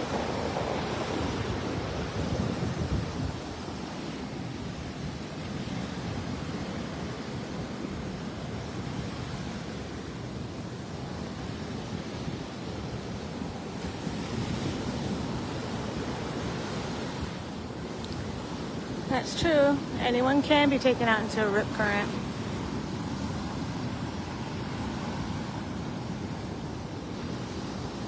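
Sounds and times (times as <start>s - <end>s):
surf breaking on a beach: 0.0s - 28.0s.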